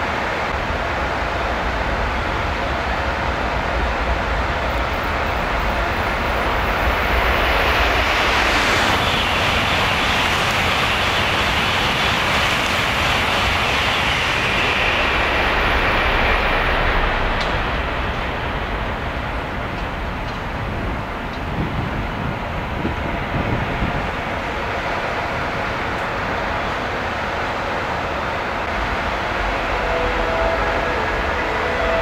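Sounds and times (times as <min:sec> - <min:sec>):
train rushing past: 0:00.0 - 0:32.0.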